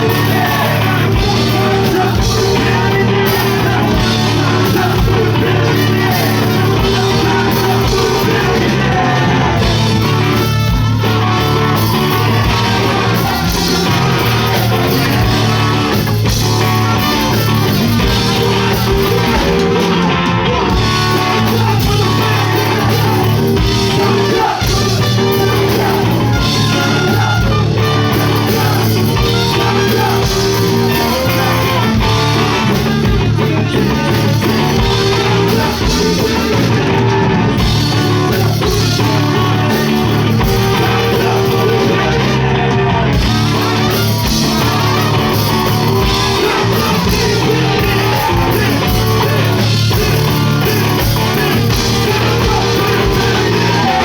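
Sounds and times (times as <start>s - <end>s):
bass: 0.0s - 54.0s
drum kit beat: 0.0s - 54.0s
electric guitar: 0.0s - 54.0s
person singing: 0.0s - 54.0s.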